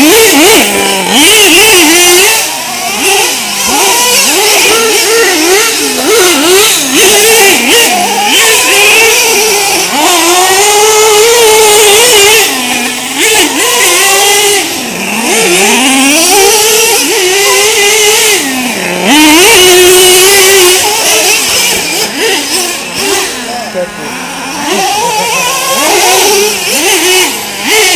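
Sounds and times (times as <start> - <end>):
small nitro engines revving: 0.0 - 27.9.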